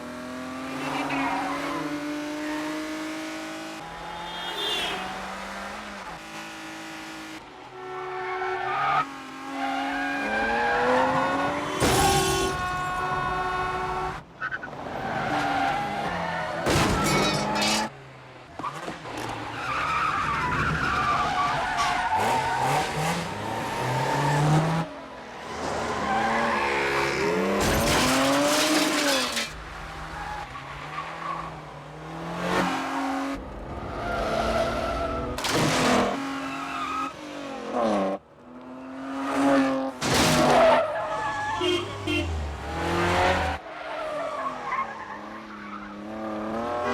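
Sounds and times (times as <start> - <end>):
car engines revving hard: 0.0 - 46.9.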